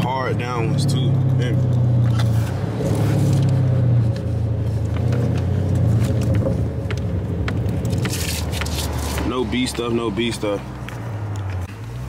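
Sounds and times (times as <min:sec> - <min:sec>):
car engine droning low: 0:00.0 - 0:12.0.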